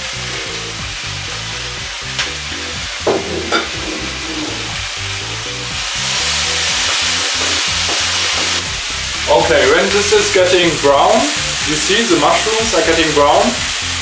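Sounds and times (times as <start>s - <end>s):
light background music: 0.0s - 14.0s
vegetables sizzling in a frying pan: 0.0s - 14.0s.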